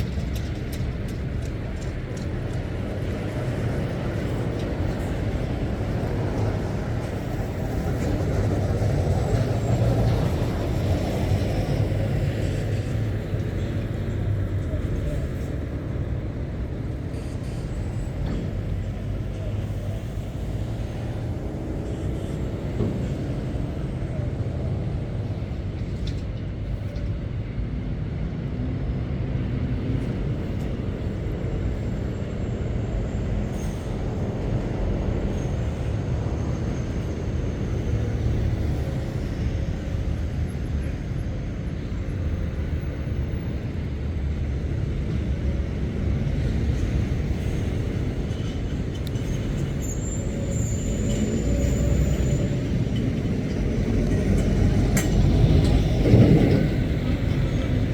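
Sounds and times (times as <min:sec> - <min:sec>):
diesel lorries passing: 0:00.0 - 0:57.9.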